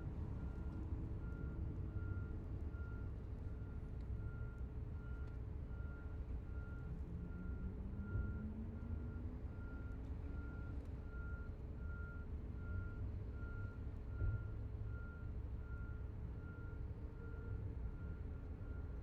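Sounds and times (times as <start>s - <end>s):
low rumble of heavy engines: 0.0s - 19.0s.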